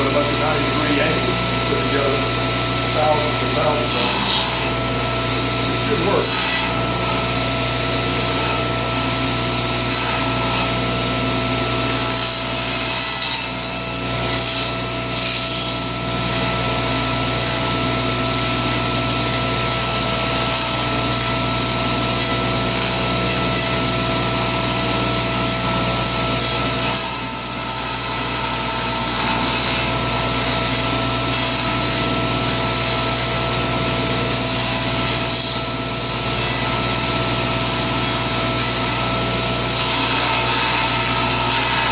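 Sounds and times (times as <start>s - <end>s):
table saw cutting plywood: 0.0s - 41.9s.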